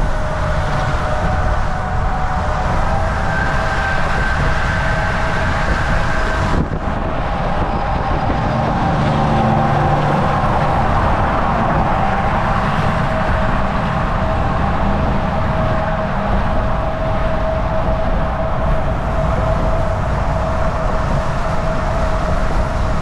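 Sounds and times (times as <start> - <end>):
constant whining tones: 0.0 - 23.0
truck engine drone: 0.0 - 23.0
tyre and road noise: 0.0 - 23.0.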